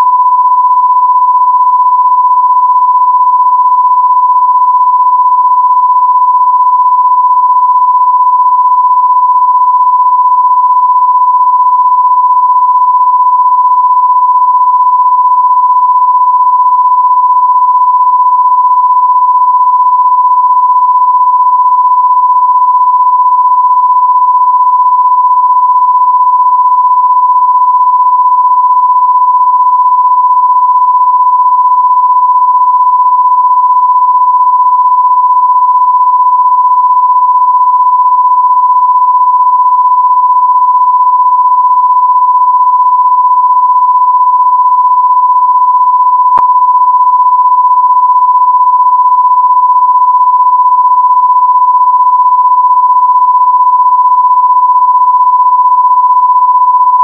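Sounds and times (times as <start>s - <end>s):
steady electronic sine tone: 0.0s - 57.0s.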